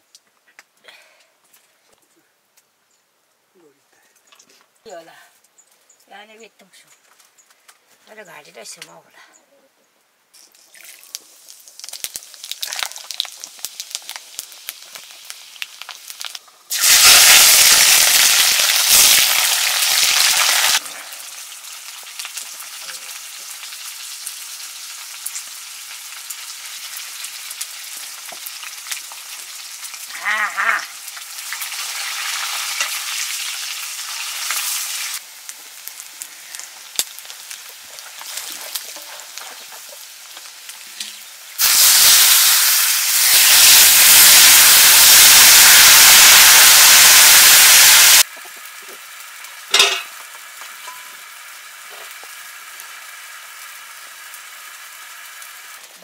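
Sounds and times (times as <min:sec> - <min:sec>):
food sizzling in hot oil: 0:10.4 - 0:56.0.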